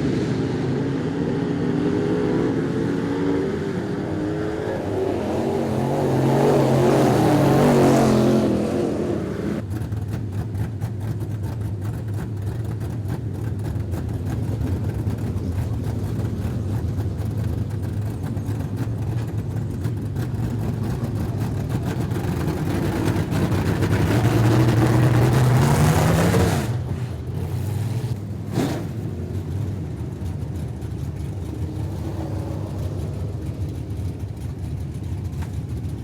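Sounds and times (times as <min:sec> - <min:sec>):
race car passing: 0:00.0 - 0:09.6, 0:14.4 - 0:35.3.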